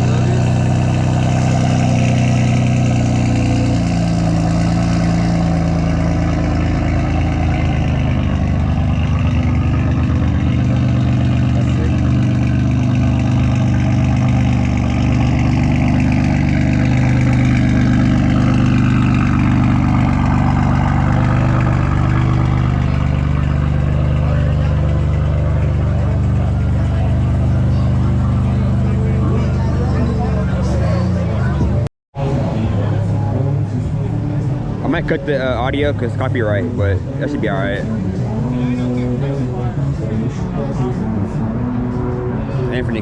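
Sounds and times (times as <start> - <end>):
car engine running at low revs: 0.0 - 43.0.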